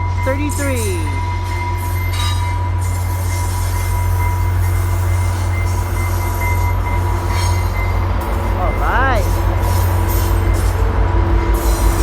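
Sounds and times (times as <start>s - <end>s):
train rumble: 0.0s - 12.0s
train wheel squeal: 0.0s - 12.0s.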